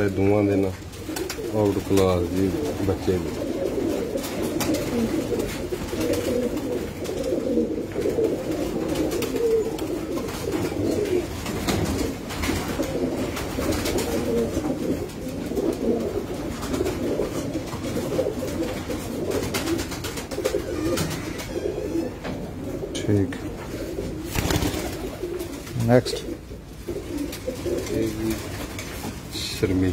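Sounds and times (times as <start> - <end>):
pigeons cooing: 0.0 - 29.1.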